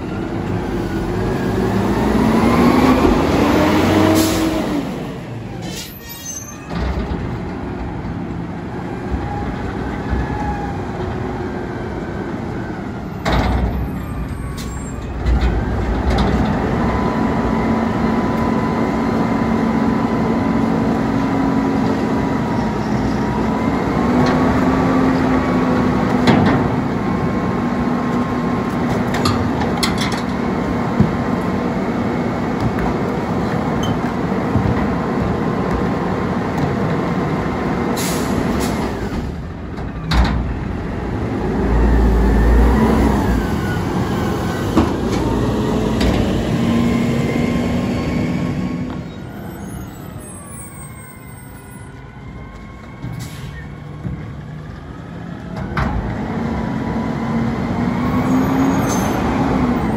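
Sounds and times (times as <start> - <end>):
garbage truck engine: 0.0 - 59.9.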